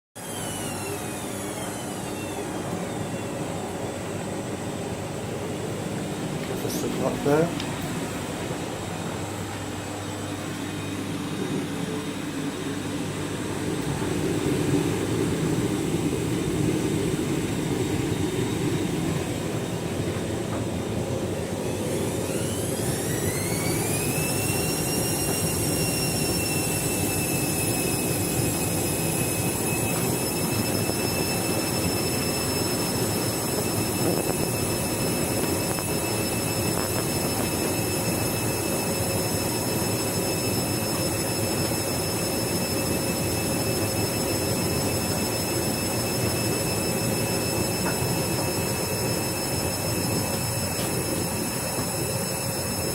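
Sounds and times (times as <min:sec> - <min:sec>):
motor whine: 0:00.2 - 0:52.9.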